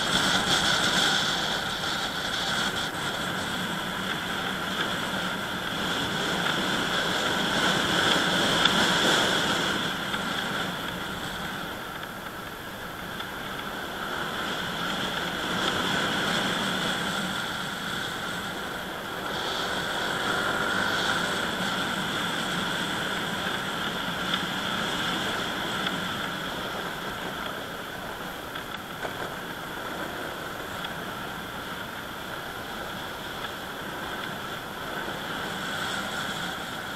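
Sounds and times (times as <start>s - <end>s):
road and wind noise: 0.0s - 36.9s
vehicle engine running: 0.0s - 36.9s.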